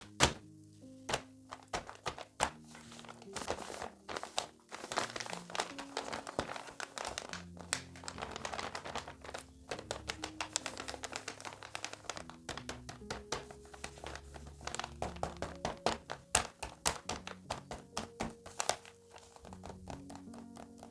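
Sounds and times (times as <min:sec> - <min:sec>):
paper crinkling and rustling: 0:00.0 - 0:20.9
soft background music: 0:00.0 - 0:20.9.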